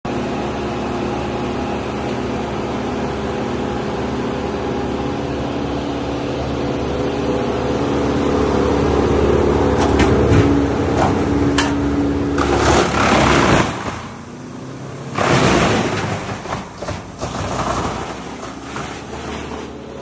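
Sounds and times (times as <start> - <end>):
heavy machinery engine running: 0.1 - 20.0.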